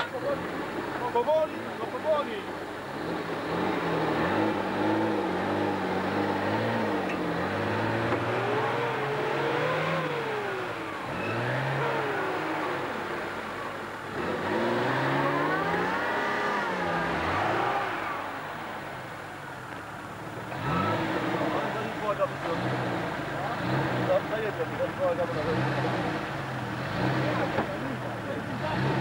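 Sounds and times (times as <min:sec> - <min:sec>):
engine revving: 0:02.8 - 0:19.1, 0:20.4 - 0:29.0.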